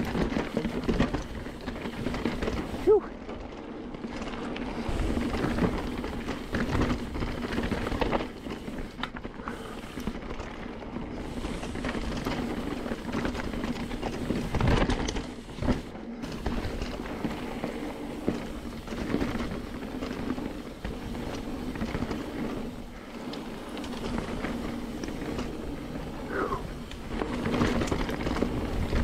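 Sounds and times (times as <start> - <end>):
bike rattling over bumps: 0.0 - 29.0
bike tyres crunching over stones: 0.0 - 29.0
wind rumble on microphone: 0.0 - 29.0.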